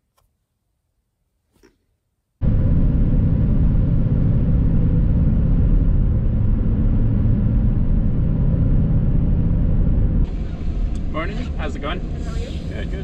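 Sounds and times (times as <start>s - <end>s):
van engine and road noise: 2.4s - 13.0s.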